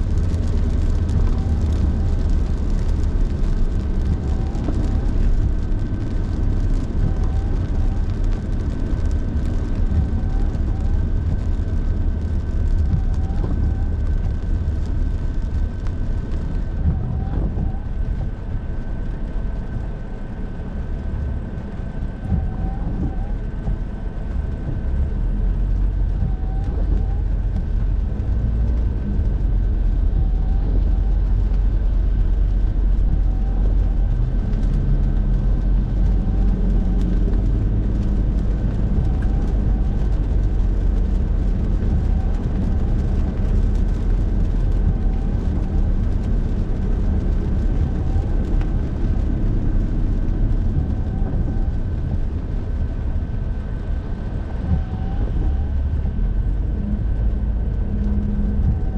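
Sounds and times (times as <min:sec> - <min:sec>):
car road and tyre noise: 0:00.0 - 0:58.9.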